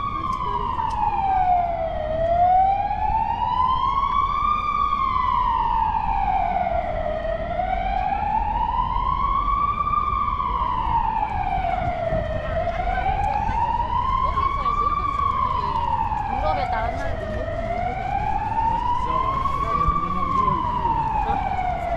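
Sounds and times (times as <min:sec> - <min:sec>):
emergency siren wailing: 0:00.0 - 0:21.9.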